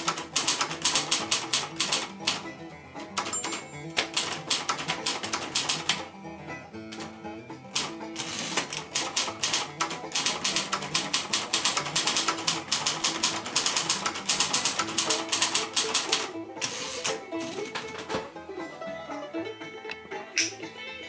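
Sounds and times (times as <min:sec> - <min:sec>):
manual typewriter clacking: 0:00.0 - 0:06.1, 0:06.9 - 0:18.2
guitar music: 0:00.0 - 0:21.0.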